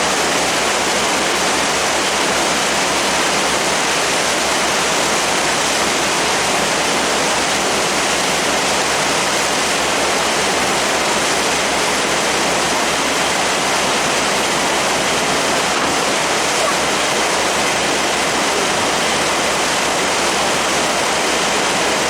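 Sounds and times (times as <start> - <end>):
wind and water rushing past boat: 0.0 - 22.0.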